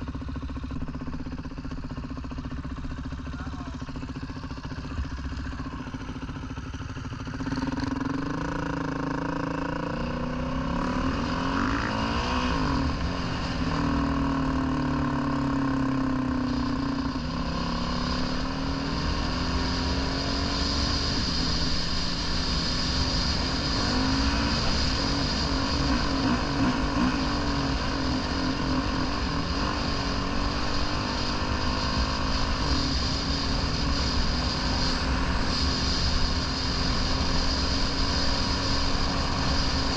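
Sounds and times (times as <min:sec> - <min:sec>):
dirt bike engine revving: 0:07.2 - 0:39.9.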